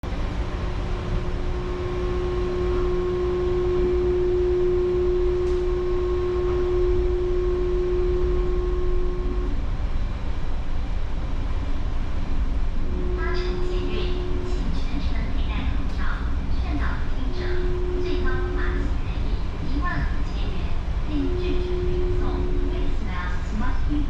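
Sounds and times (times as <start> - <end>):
steady hum: 0.0 - 24.0
train low rumble: 0.0 - 24.0.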